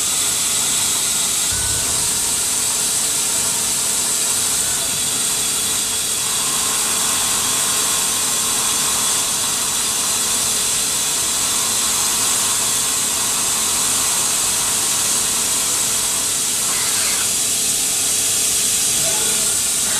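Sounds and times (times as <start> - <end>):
coolant spray and cutting hiss: 0.0 - 19.9.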